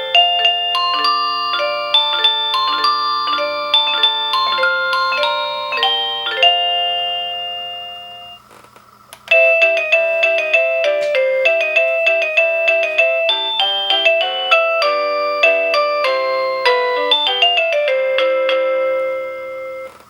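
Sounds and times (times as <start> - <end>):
electronic doorbell chime: 0.0 - 8.4, 9.3 - 20.0.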